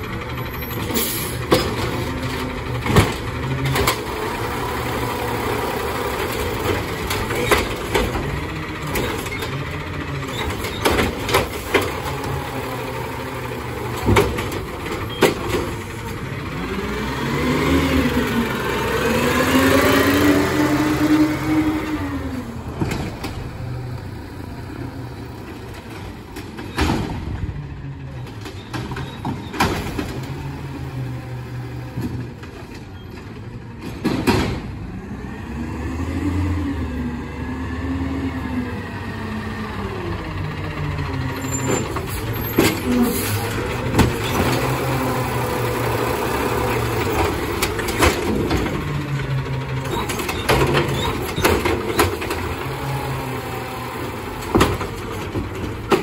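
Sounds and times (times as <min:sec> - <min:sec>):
garbage truck engine running: 0:00.0 - 0:56.0.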